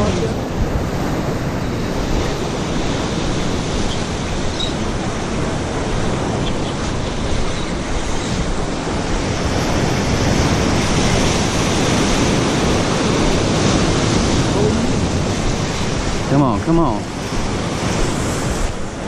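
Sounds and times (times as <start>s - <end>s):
ocean surf washing in: 0.0s - 19.0s
wind on microphone: 0.0s - 19.0s.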